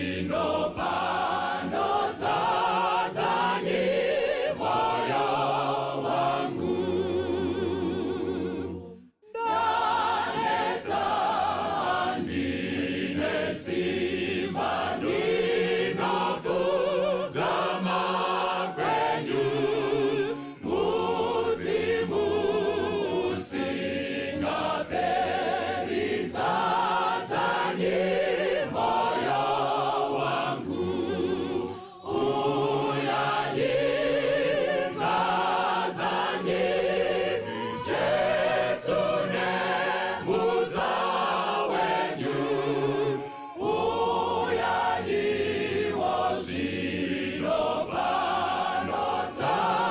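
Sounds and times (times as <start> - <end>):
choir singing a hymn unaccompanied: 0.0 - 49.9.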